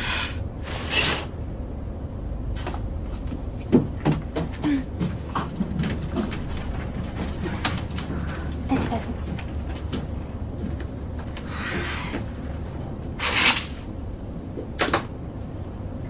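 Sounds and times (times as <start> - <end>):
airliner cabin hum: 0.0 - 16.0.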